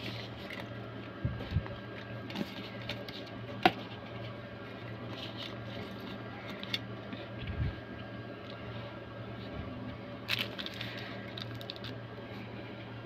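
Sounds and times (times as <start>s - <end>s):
wires rustling: 0.0s - 12.5s
steady low hum: 0.0s - 13.0s.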